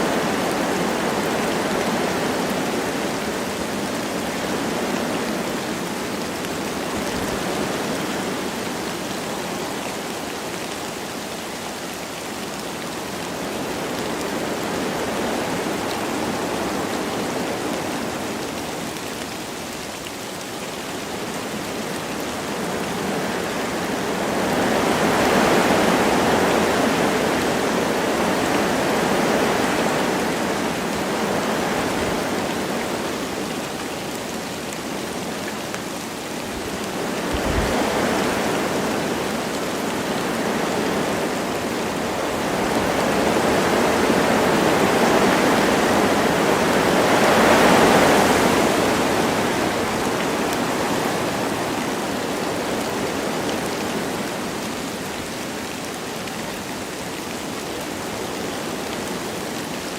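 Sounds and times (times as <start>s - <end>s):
light rain falling: 0.0s - 59.9s
wind rushing through trees: 0.0s - 59.9s.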